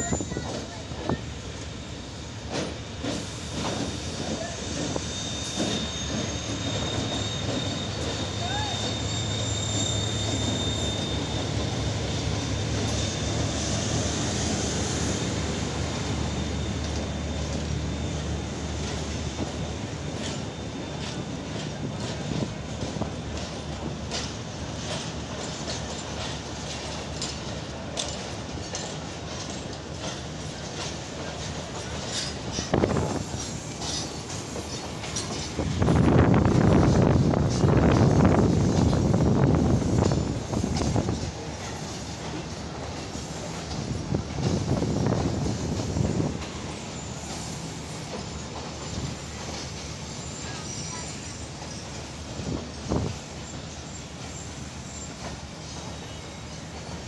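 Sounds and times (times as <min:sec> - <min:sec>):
sharp clicks of train wheels: 0:00.0 - 0:57.0
train wheels rumbling: 0:00.0 - 0:57.0.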